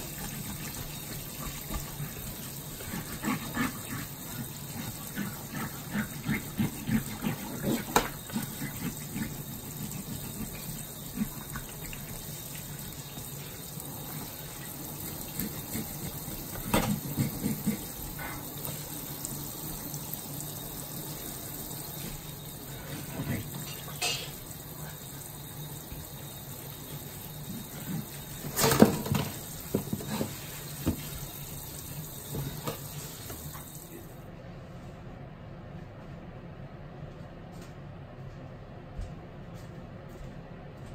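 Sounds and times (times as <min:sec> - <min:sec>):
faucet spray running into sink: 0:00.0 - 0:34.1.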